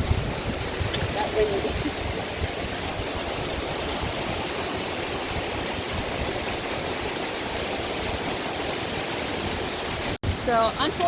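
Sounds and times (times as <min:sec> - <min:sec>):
stream rushing over rocks: 0:00.0 - 0:11.0
wind on microphone: 0:00.0 - 0:11.0.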